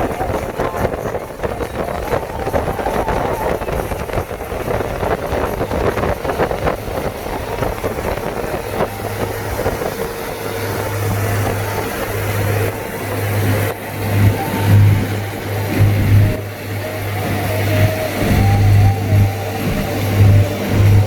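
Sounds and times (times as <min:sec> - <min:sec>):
car engine and road noise: 0:00.0 - 0:21.0
pulsing low hum: 0:00.0 - 0:21.0.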